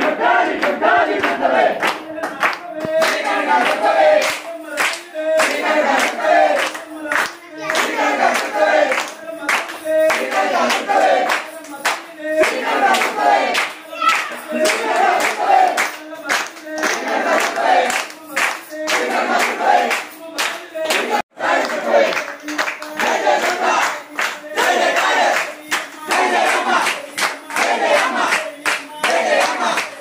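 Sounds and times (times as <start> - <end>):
group singing devotional song: 0.0 - 30.0
hands clapping to a beat: 0.0 - 30.0.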